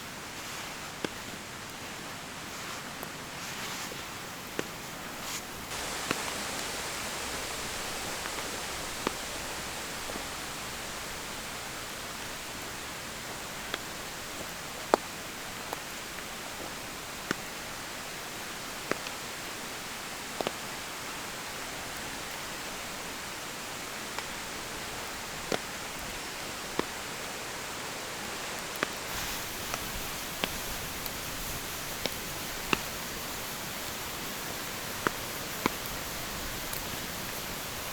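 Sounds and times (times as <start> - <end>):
rain hissing in forest: 0.0 - 37.9.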